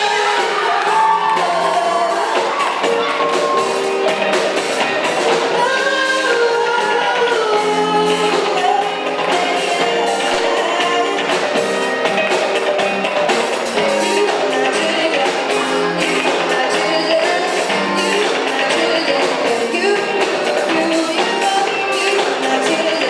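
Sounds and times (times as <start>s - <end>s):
band playing pop-rock song: 0.0s - 23.0s
guitar: 0.0s - 23.0s
person singing: 0.0s - 23.0s.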